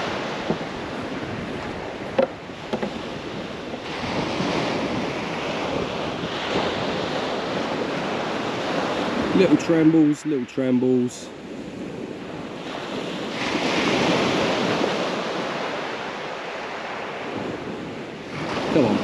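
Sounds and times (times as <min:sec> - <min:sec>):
waves washing onto shingle: 0:00.0 - 0:19.0
wind buffeting microphone: 0:00.0 - 0:19.0.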